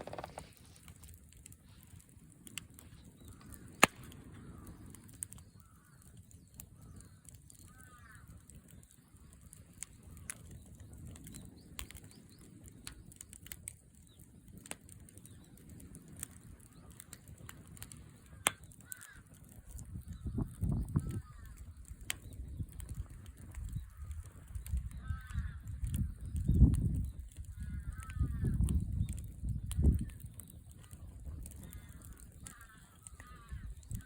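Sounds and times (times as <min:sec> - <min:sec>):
campfire crackling and popping: 0:00.0 - 0:34.0
low rumble of fire: 0:00.0 - 0:34.0.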